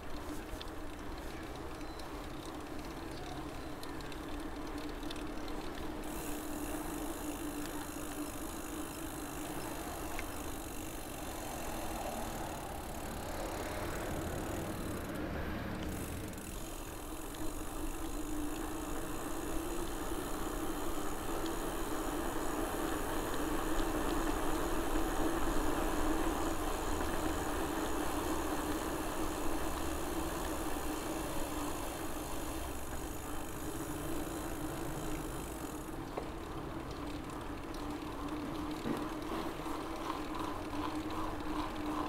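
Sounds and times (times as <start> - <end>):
bicycle tyre hum on road: 0.0 - 42.0.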